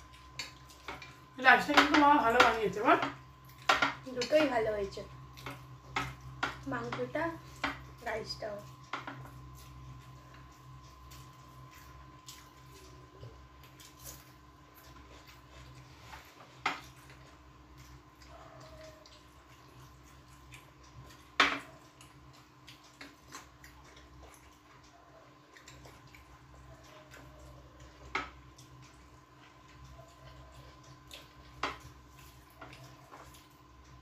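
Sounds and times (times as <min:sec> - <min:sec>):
faint steady hum: 0:00.0 - 0:34.0
people eating with hands: 0:00.0 - 0:34.0.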